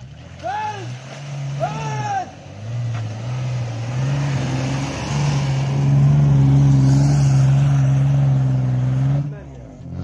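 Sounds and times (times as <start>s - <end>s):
engine at high revs: 0.9s - 10.0s.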